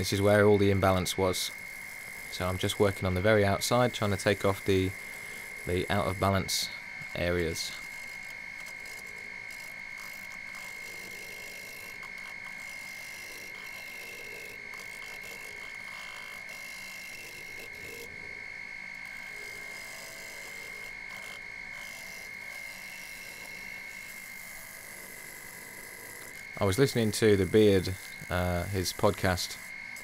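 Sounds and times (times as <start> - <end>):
gouge cutting wood hiss: 0.0 - 30.0
wood lathe whine: 0.0 - 30.0.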